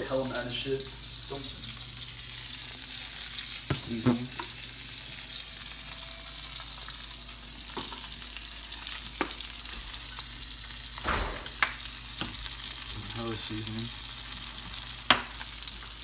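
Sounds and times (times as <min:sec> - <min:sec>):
grease sizzling in a skillet: 0:00.0 - 0:16.0.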